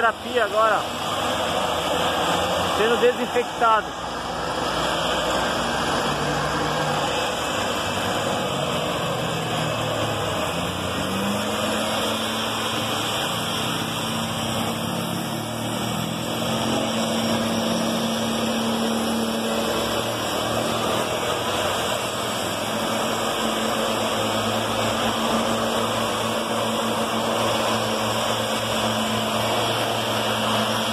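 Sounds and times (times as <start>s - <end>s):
mist-blower engine running: 0.0s - 30.9s.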